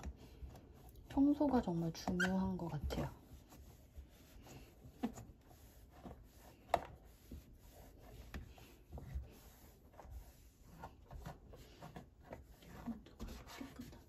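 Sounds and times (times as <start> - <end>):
damp cloth rubbing plastic: 0.0 - 14.0.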